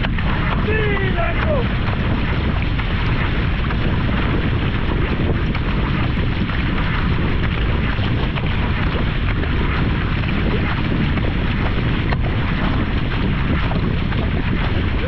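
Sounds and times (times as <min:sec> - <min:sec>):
paddle splashing water: 0:00.0 - 0:15.0
water rushing past kayak hull: 0:00.0 - 0:15.0
wind on microphone: 0:00.0 - 0:15.0.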